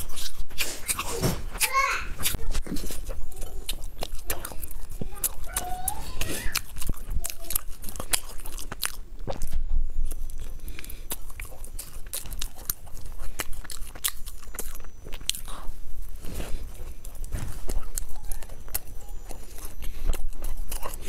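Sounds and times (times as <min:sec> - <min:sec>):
chewing soft bread: 0:00.0 - 0:21.0.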